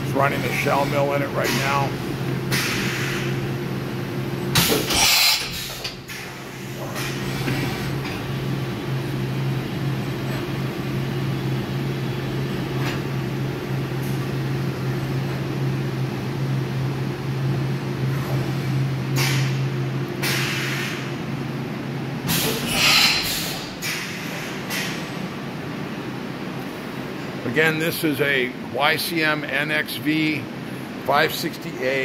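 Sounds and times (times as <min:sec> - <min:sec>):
machining center humming: 0:00.0 - 0:32.0.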